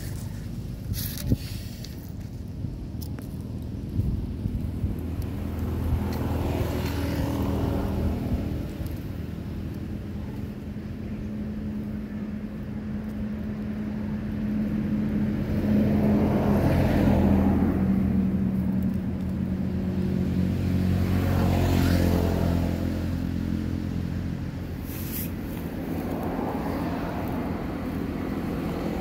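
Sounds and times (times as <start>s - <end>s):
vehicle engines humming: 0.0s - 29.0s
vehicles passing: 0.0s - 29.0s.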